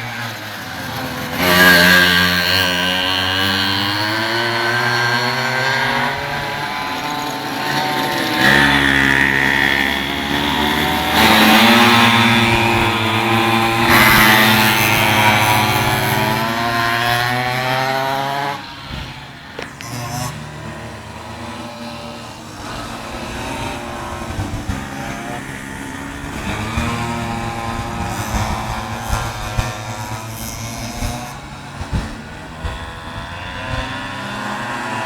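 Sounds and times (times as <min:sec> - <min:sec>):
small motorbike engines racing: 0:00.0 - 0:35.0.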